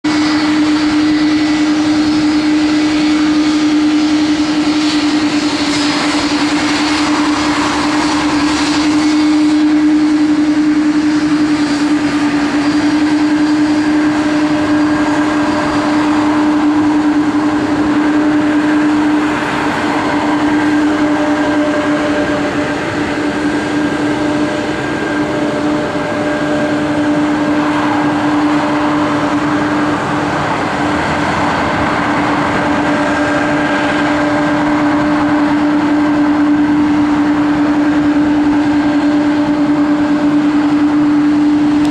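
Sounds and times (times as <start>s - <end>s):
jet engines running: 0.0s - 41.9s.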